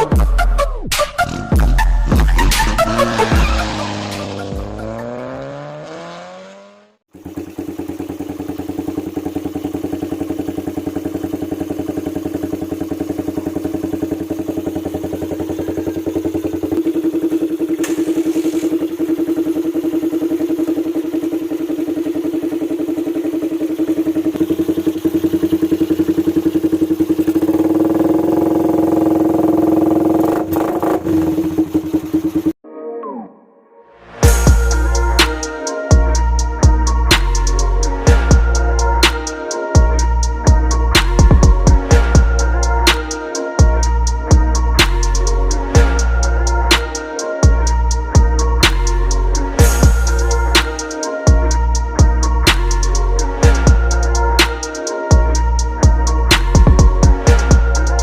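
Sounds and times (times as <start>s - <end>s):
electronic music: 0.0s - 6.1s, 13.2s - 58.0s
motorcycle engine idling: 7.1s - 32.6s, 34.2s - 58.0s.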